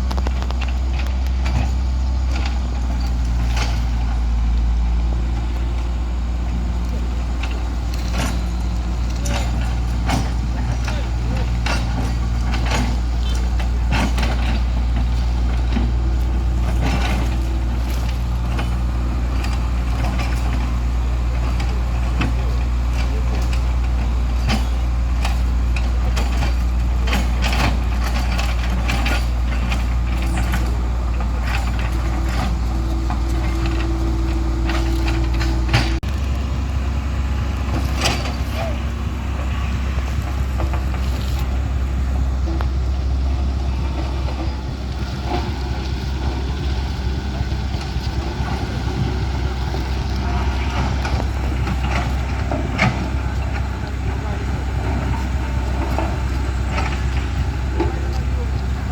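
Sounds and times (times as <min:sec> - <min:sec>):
truck diesel engine idling: 0:00.0 - 0:58.9.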